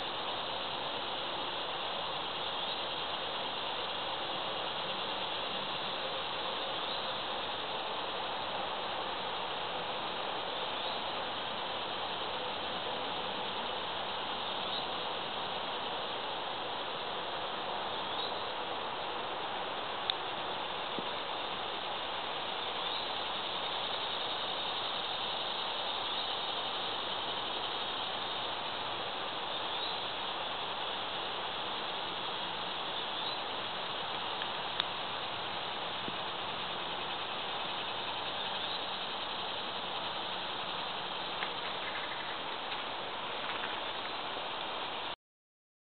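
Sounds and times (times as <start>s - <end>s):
high-pitched insect chorus: 0.0s - 45.2s.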